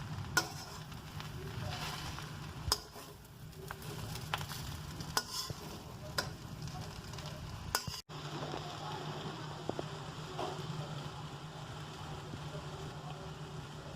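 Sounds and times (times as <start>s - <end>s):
faint sizzle: 0.0s - 13.9s.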